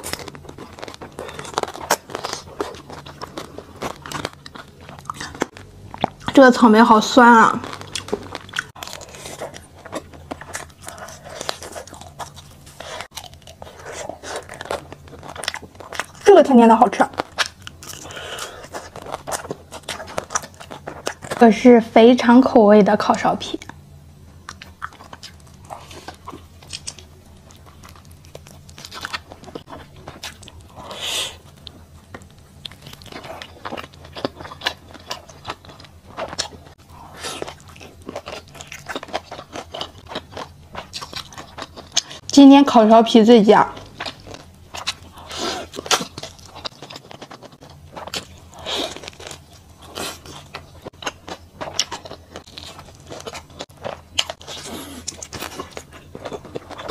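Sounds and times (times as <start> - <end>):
close biting and chewing: 0.0 - 6.4, 7.6 - 16.3, 16.9 - 21.4, 24.4 - 42.3, 43.8 - 56.9
crunching candied fruit: 0.0 - 21.7, 24.4 - 56.9.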